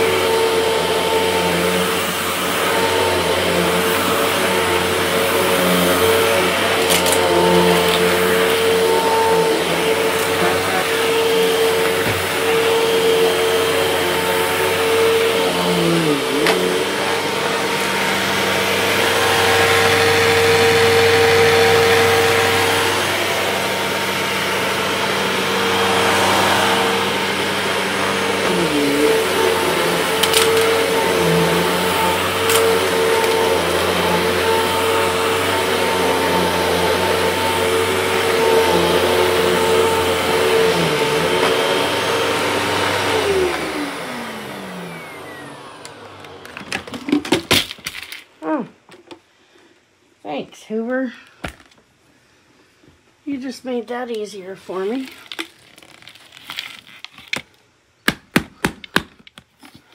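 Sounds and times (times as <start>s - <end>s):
vacuum cleaner running: 0.0s - 48.6s.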